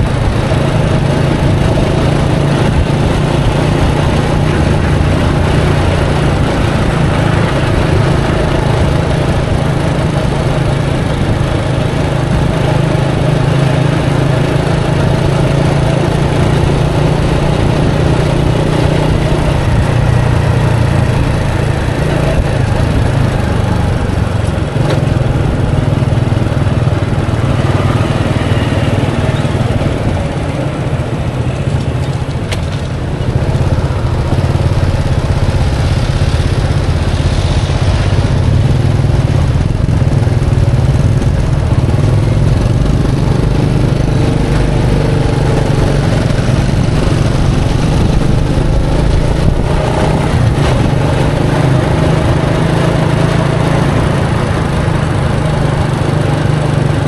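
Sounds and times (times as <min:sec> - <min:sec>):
road and traffic noise: 0:00.0 - 0:57.0
small motorbike engine running: 0:00.0 - 0:57.0.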